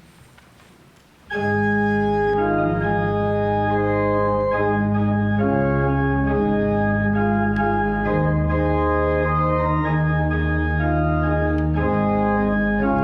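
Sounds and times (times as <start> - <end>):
organ playing full chords: 1.3 - 13.0.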